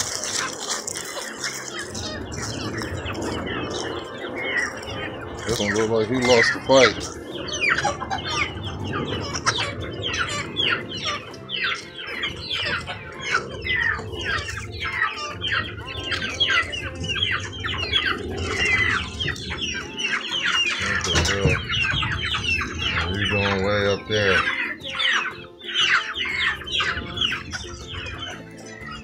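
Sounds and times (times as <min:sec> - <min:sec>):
chicks peeping and chirping: 0:00.0 - 0:29.0.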